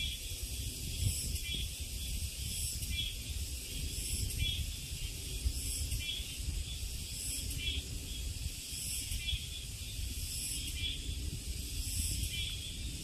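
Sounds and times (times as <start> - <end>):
insect buzzing chorus: 0.0 - 13.0.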